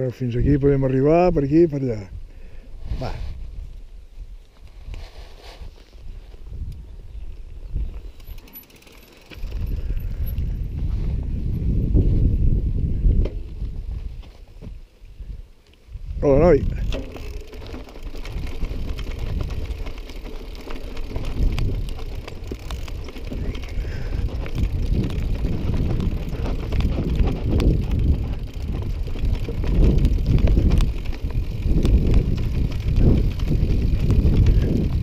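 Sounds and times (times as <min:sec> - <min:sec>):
wind rumbling on microphone: 0:00.0 - 0:08.5, 0:09.2 - 0:35.0
bicycle rattling on dirt trail: 0:00.0 - 0:14.8, 0:15.8 - 0:35.0.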